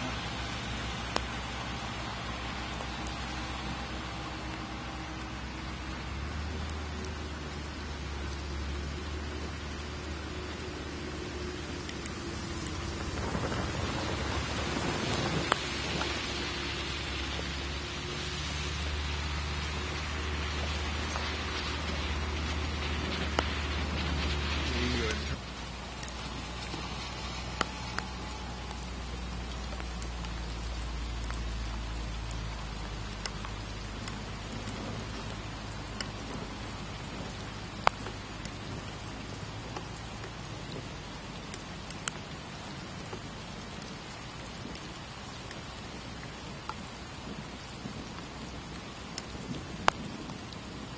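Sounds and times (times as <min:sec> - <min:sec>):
low rumble: 0:00.0 - 0:50.9
sharp ticks and crackles: 0:00.0 - 0:50.9
wind and rain rushing: 0:00.0 - 0:50.9.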